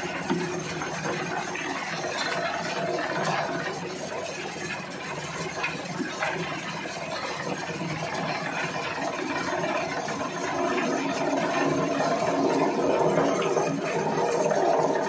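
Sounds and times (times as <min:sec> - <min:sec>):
rattling material in mill: 0:00.0 - 0:15.0.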